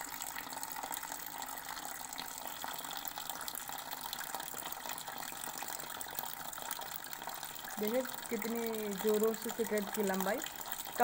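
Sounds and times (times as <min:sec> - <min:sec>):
water stream into bowl: 0:00.0 - 0:11.0.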